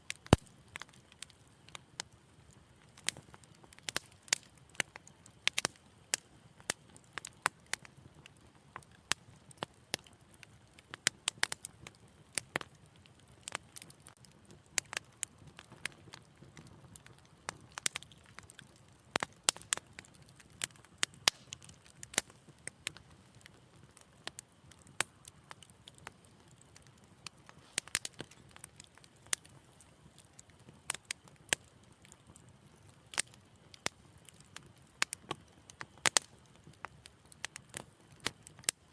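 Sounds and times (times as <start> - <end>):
fire crackling in a fireplace: 0.0 - 38.9.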